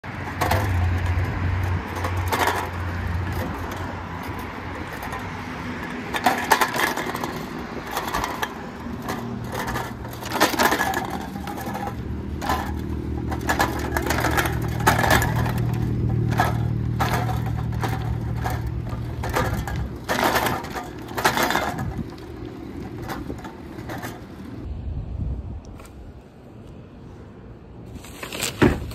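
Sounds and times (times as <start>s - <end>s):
low steady riding hum: 0.0s - 28.9s
cans rattling in plastic crate: 0.1s - 24.2s.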